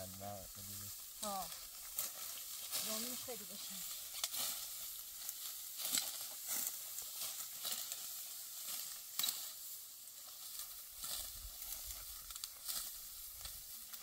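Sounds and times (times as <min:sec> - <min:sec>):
dry wheat stalks rustling: 0:00.0 - 0:14.0.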